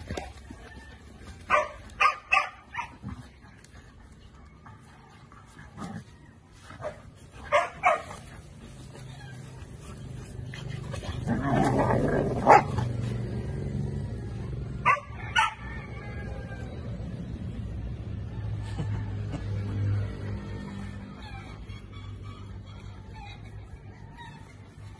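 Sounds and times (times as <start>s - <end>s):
dogs yipping and barking: 0.0s - 13.5s, 14.4s - 16.7s, 18.6s - 24.9s.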